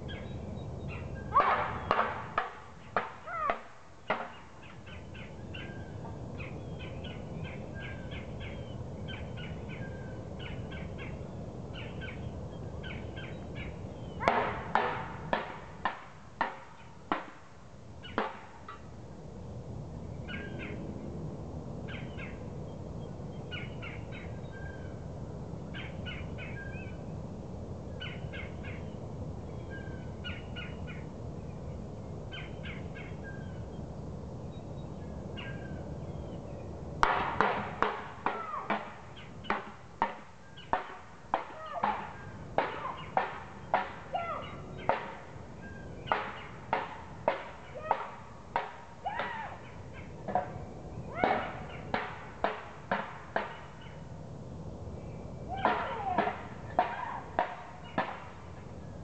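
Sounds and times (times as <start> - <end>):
birds calling: 0.0 - 17.2, 18.0 - 18.9, 27.9 - 33.9, 34.5 - 54.2, 54.9 - 58.5.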